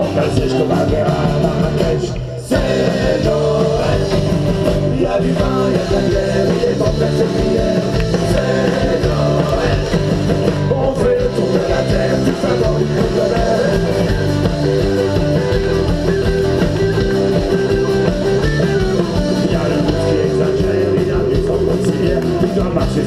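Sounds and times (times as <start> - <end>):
electric guitar: 0.0 - 23.0
live rock band playing: 0.0 - 23.0.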